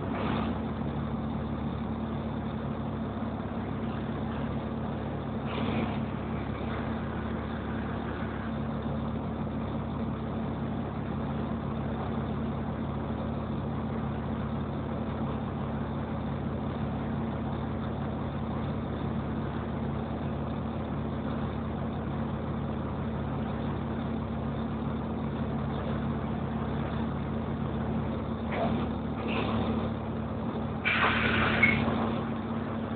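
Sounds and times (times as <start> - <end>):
bus diesel engine humming: 0.0 - 32.9.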